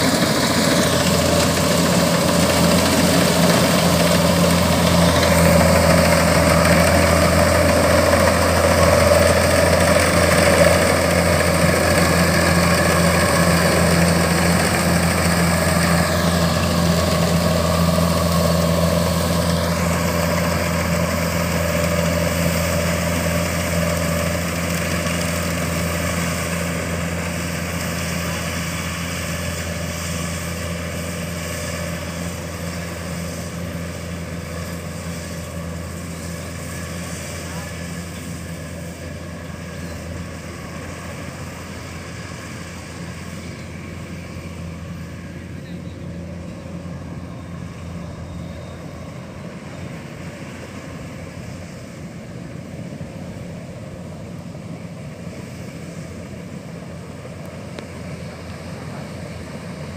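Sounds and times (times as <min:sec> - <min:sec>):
combine harvester diesel engine drone: 0:00.0 - 0:59.9.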